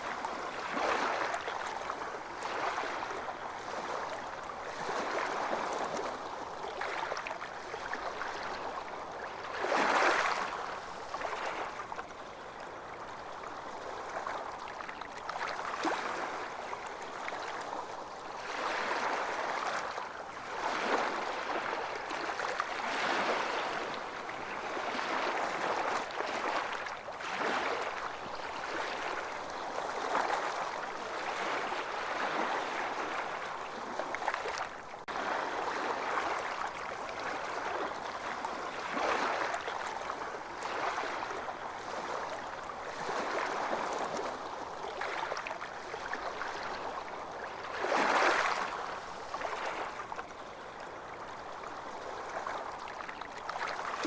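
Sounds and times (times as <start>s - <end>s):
ocean waves breaking on beach: 0.0s - 13.2s, 15.4s - 52.8s.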